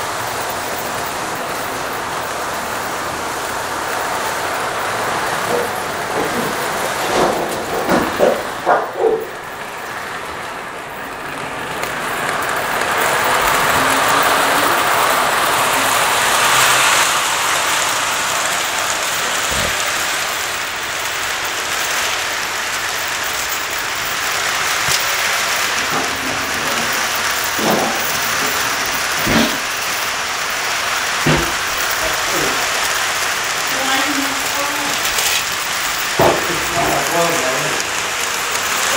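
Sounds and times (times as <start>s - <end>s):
toy train whirring rumble: 0.0s - 38.9s.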